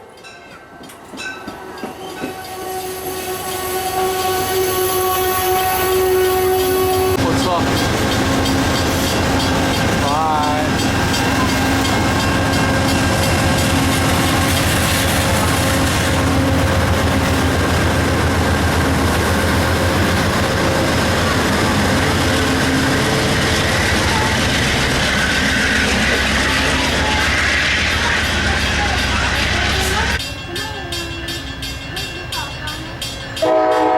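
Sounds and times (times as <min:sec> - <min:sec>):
train wheels clattering: 0:00.1 - 0:04.5, 0:05.8 - 0:33.9.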